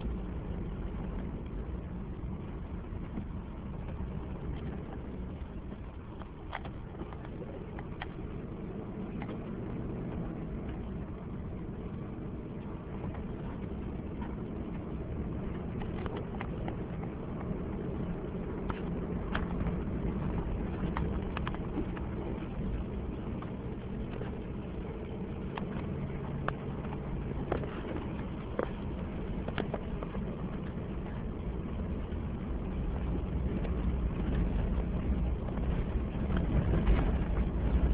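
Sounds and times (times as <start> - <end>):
engine and tyre rumble: 0.0 - 37.9.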